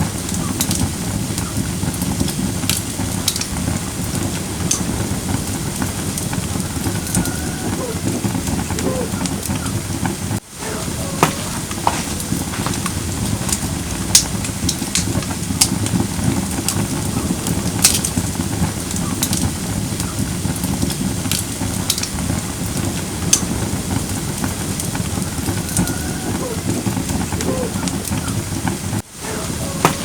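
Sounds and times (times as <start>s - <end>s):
burning wood crackling and popping: 0.0s - 30.0s
fire flames rushing: 0.0s - 30.0s.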